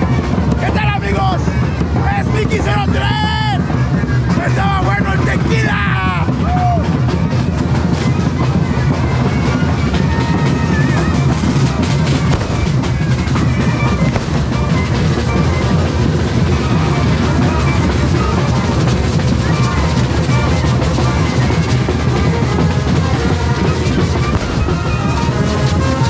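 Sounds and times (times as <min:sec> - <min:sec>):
loud drumming: 0:00.0 - 0:26.0
sousaphones and trumpets: 0:00.0 - 0:26.0
street brass band playing: 0:00.0 - 0:26.0.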